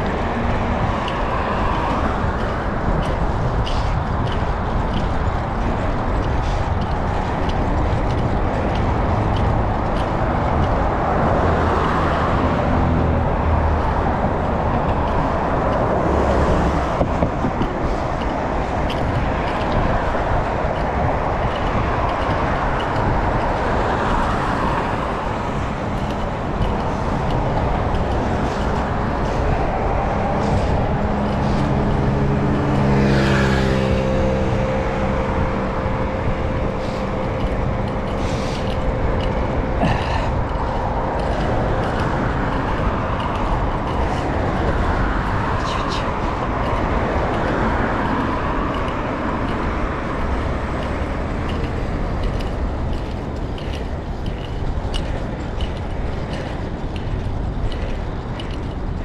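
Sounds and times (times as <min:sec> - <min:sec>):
pitched engine hum: 0:00.0 - 0:59.0
road and wind noise: 0:00.0 - 0:59.0.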